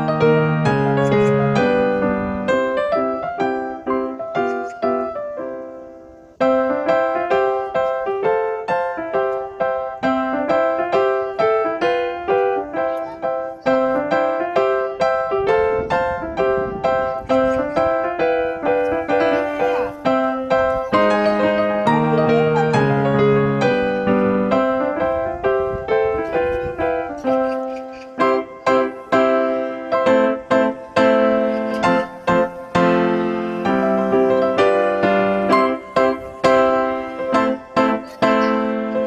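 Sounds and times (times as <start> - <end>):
gentle piano melody: 0.0 - 39.0.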